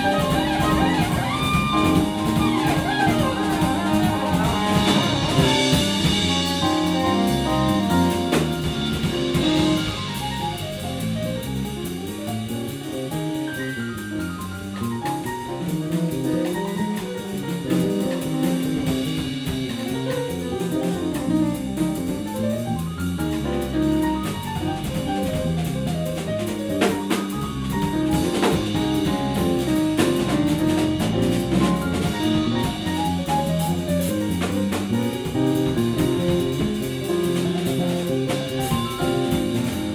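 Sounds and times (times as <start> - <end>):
drum kit and cymbals: 0.0 - 39.9
jazz band playing: 0.0 - 39.9
low bass line: 0.0 - 39.9.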